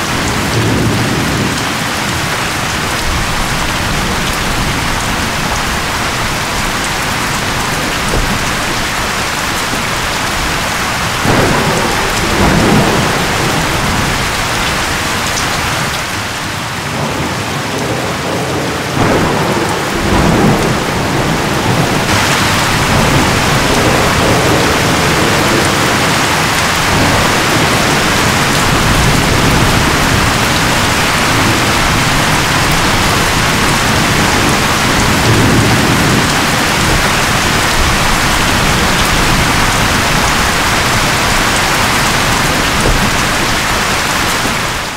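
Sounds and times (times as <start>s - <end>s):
rain and wind: 0.0s - 44.9s
thunder rumbling: 0.0s - 44.9s.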